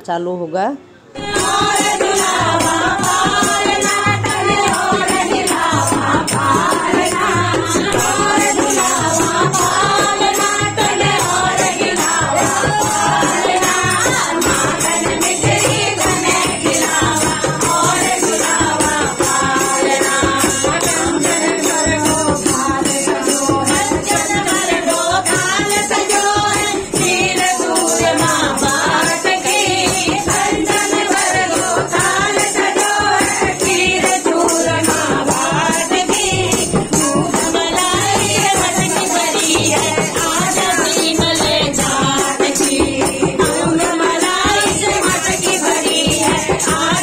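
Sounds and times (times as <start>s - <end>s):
group singing devotional song: 1.1s - 47.0s
jingling hand percussion: 1.2s - 47.0s.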